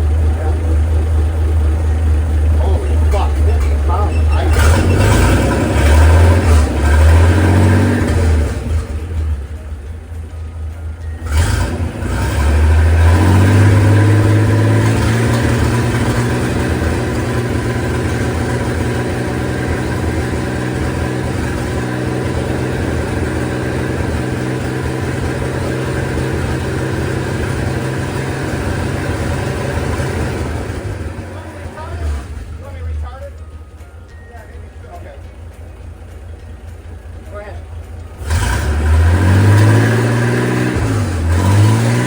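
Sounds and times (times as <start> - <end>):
marine engine running: 0.0 - 42.0.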